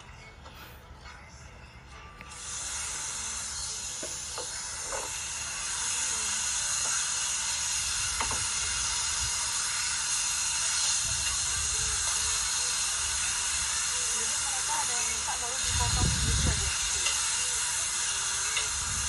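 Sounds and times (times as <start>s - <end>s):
meat sizzling on a grill: 2.3s - 19.0s.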